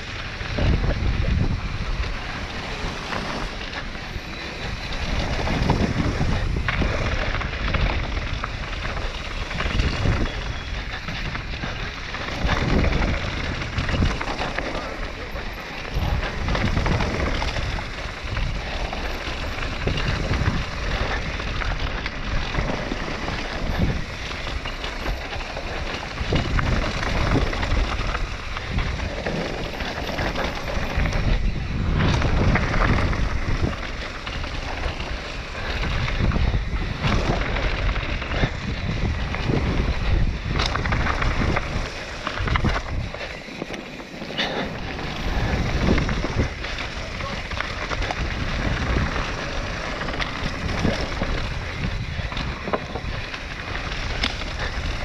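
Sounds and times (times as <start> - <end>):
bike tyres rolling on gravel: 0.0 - 55.0
wind buffeting microphone: 0.0 - 55.0.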